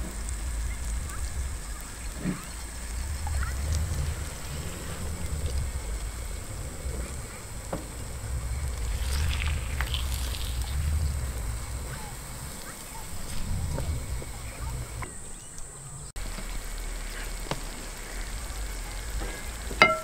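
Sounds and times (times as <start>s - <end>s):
fish crackling in frying pan: 0.0s - 15.1s, 16.2s - 20.0s
faint clicks: 0.0s - 19.8s
wind rumble on microphone: 0.0s - 19.8s.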